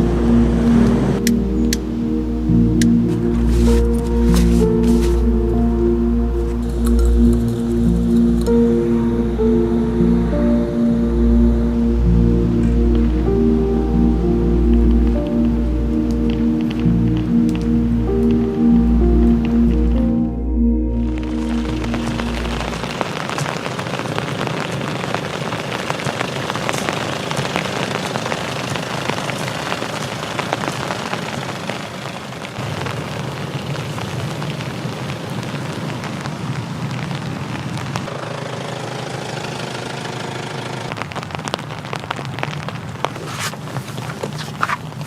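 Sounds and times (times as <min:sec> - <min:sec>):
steady rain: 0:00.0 - 0:45.0
raindrop ticks: 0:00.8 - 0:08.8, 0:12.6 - 0:20.0, 0:21.0 - 0:38.1, 0:40.9 - 0:45.0.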